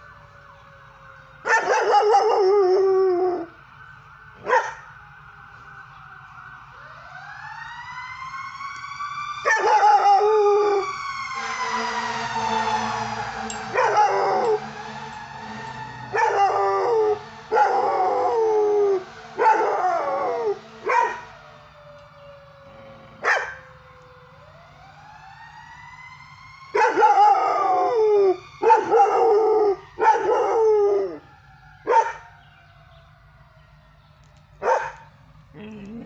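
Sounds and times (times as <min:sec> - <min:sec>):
emergency vehicle siren wailing: 0:00.0 - 0:36.0.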